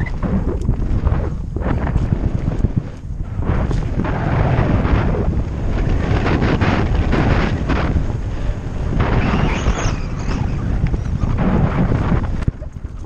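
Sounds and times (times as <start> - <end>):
rumbling tyre noise: 0.0 - 13.0
wind buffeting microphone: 0.0 - 13.0.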